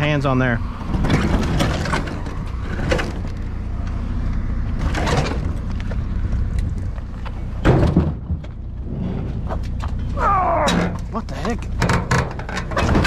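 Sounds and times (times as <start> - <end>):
vehicle engine idling: 1.6 - 12.7.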